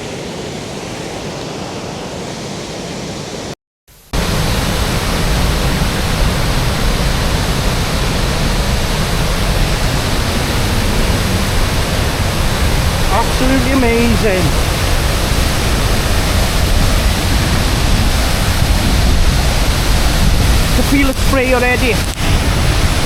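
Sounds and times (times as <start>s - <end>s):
waterfall roar: 0.0s - 23.0s.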